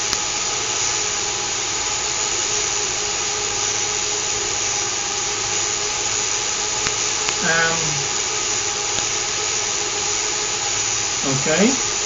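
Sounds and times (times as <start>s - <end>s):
small electric motors whirring: 0.0s - 12.0s.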